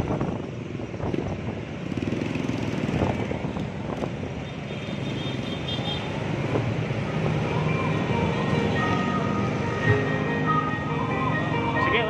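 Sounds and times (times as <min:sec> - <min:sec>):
scooter and motorcycle engines: 0:00.0 - 0:12.0.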